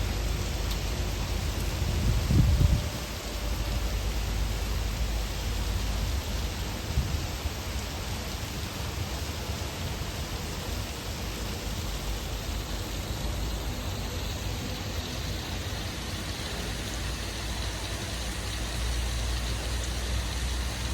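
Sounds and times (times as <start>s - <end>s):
heavy rain falling: 0.0s - 20.9s.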